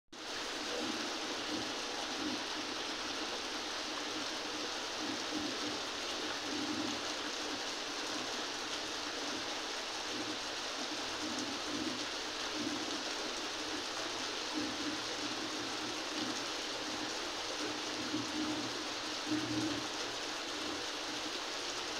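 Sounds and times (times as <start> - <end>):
heavy rain on a rooftop: 0.2 - 21.9.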